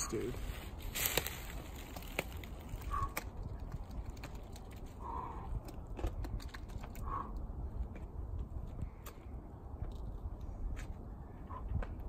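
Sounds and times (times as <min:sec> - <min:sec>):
light clicks and scuffs on rock: 0:00.8 - 0:11.0.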